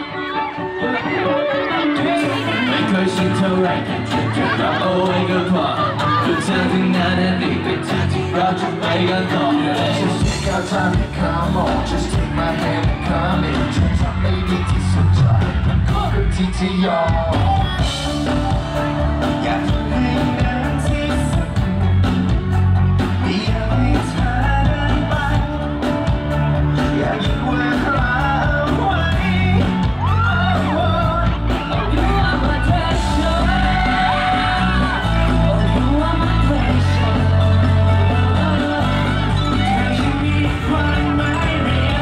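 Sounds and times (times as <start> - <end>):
fans yelling and screaming: 0.0 - 42.0
live pop song over loudspeakers: 0.0 - 42.0.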